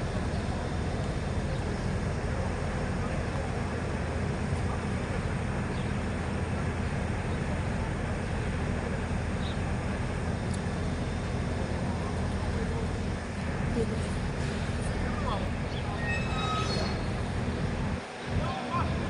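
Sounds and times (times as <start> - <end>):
diesel railcar rumble: 0.0 - 19.0.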